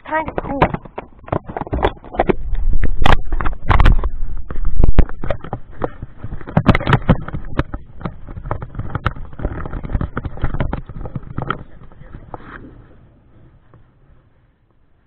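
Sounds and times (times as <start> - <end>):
camera knocking and rustling: 0.0 - 12.8
wind rumbling on microphone: 0.0 - 15.0.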